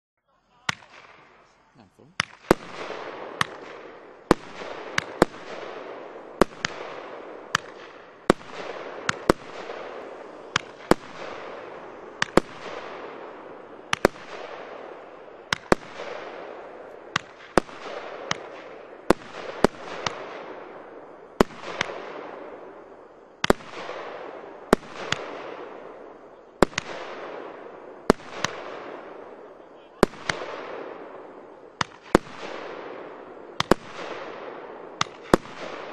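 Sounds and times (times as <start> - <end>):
firework cake shots: 0.4 - 20.7, 21.4 - 35.9.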